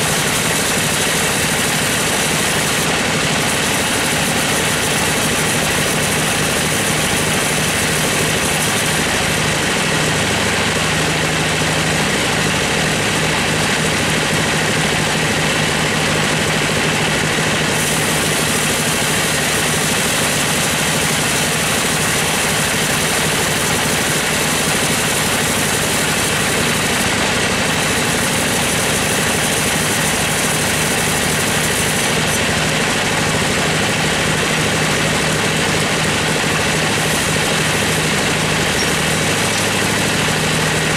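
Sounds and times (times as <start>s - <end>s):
bandsaw cutting wood: 0.0s - 40.9s.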